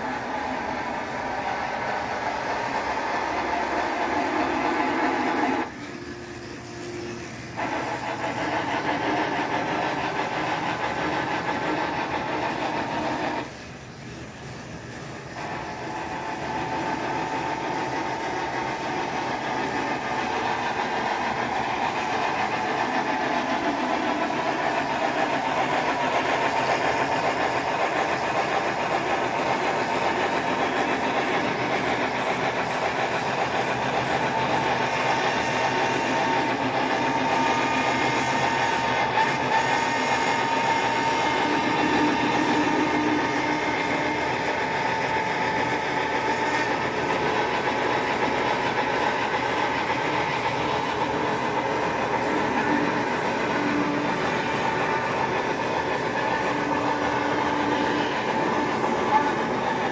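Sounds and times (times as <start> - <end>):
model train motor and wheel noise: 0.0 - 59.9
steam locomotive sounds from speaker: 0.0 - 59.9.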